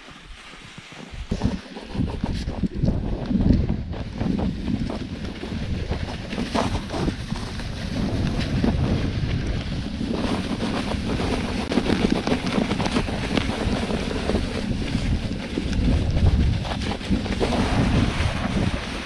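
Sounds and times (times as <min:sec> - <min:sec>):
wind buffeting microphone: 0:01.0 - 0:19.0.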